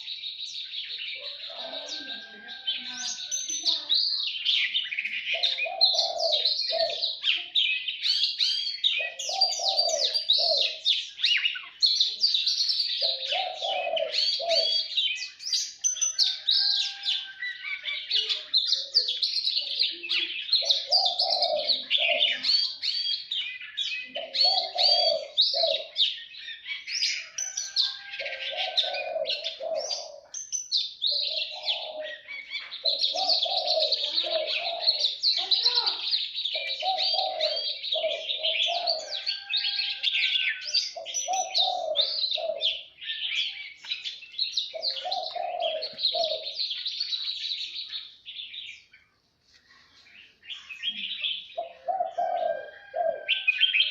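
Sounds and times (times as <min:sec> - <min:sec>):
birds chirping and twittering: 0:00.0 - 0:53.9.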